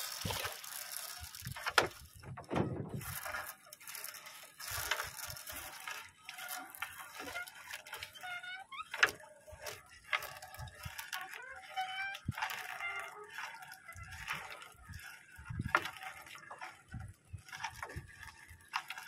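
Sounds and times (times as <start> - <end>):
wet net rustling and scraping: 0.0 - 19.0.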